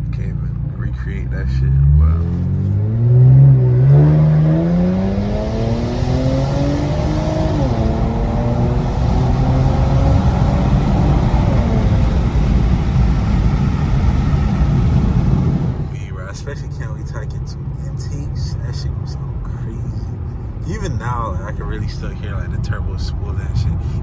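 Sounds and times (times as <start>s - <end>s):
car engine accelerating hard: 0.0s - 24.0s
road noise: 0.0s - 24.0s.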